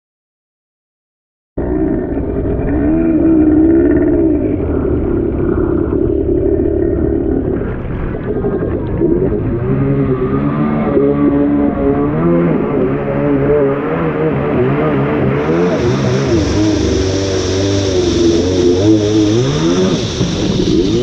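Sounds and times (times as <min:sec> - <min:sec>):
jet ski engine running: 0:01.6 - 0:21.0.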